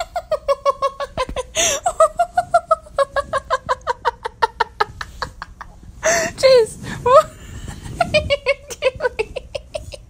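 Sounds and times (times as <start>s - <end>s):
person laughing hard: 0.0s - 6.3s, 7.6s - 10.0s.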